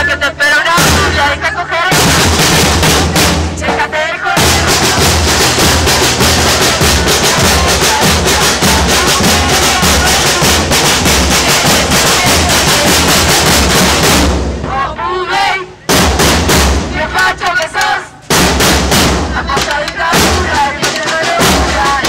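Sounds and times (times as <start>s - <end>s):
marching snare drums: 0.6s - 22.0s.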